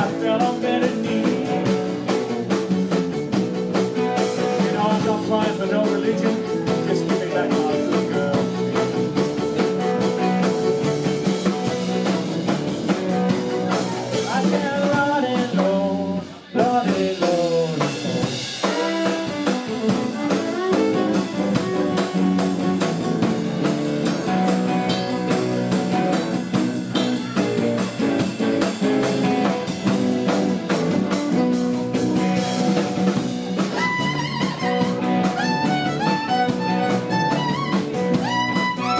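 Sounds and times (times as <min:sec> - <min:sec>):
blues guitar with sliding notes: 0:00.0 - 0:38.9
drum kit: 0:00.0 - 0:38.9.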